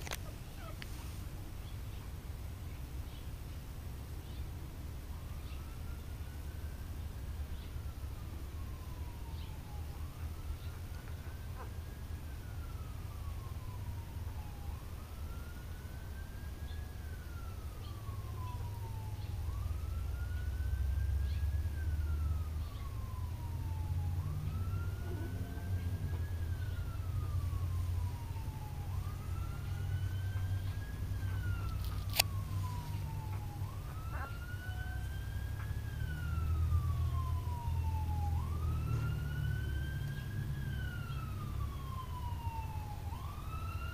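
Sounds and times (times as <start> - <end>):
emergency siren wailing: 5.0 - 43.9.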